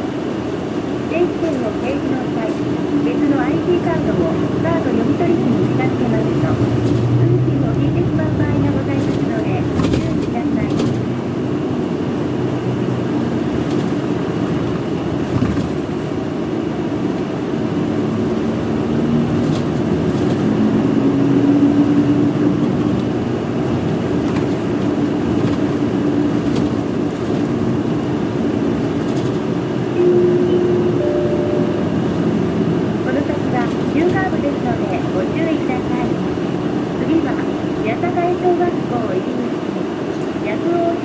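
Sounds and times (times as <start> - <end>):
bus engine and road drone: 0.0 - 41.0.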